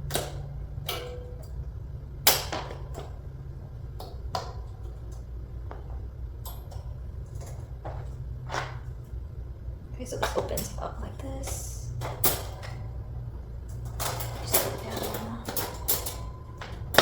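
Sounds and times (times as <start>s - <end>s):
cage parts clicking and knocking: 0.0s - 9.2s, 10.1s - 17.0s
steady low hum: 0.0s - 17.0s.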